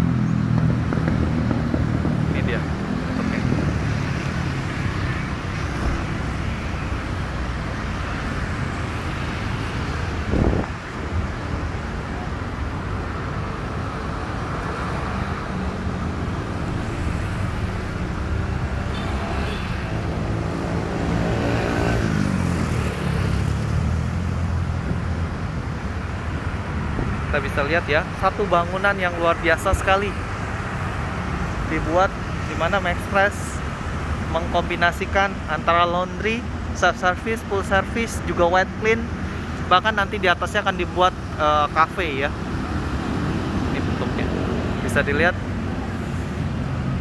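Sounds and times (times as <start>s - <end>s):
outdoor traffic rumble: 0.0s - 47.0s.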